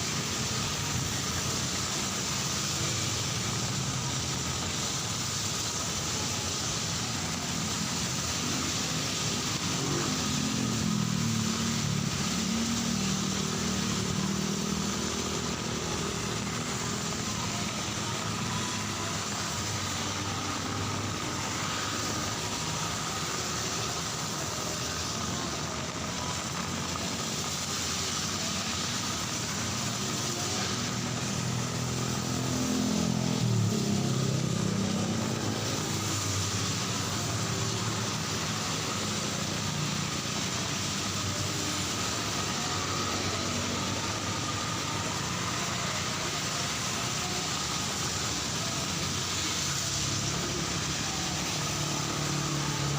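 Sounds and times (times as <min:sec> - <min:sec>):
cars passing on wet street: 0:00.0 - 0:52.9
rain falling: 0:00.0 - 0:52.9.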